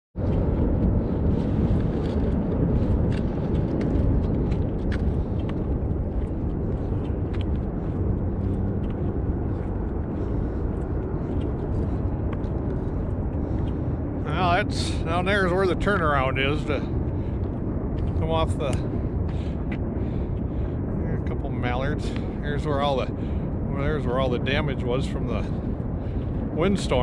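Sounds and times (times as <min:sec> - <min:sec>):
wind buffeting microphone: 0:00.2 - 0:27.0.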